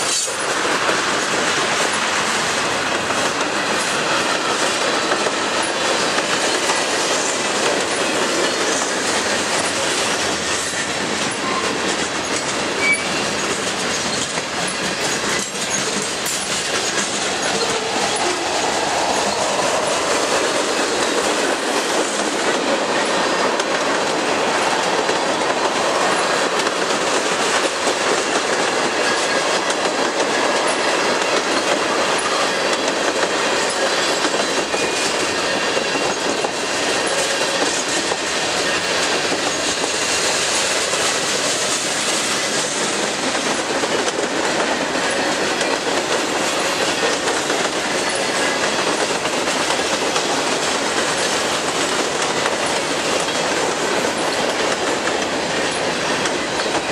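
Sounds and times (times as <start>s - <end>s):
freight train wheels on rails: 0.0s - 56.9s.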